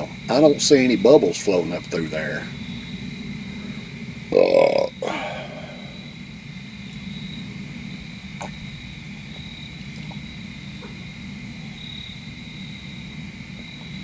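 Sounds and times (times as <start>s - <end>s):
crickets trilling: 0.0s - 14.0s
low steady rumble: 0.0s - 14.0s.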